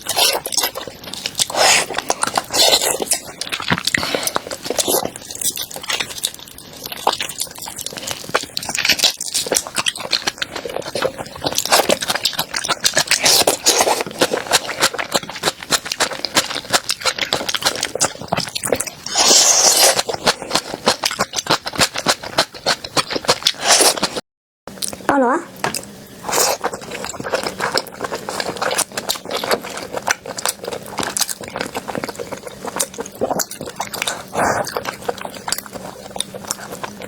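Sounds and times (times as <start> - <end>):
crunchy food chewing: 0.0 - 25.0, 25.6 - 37.0.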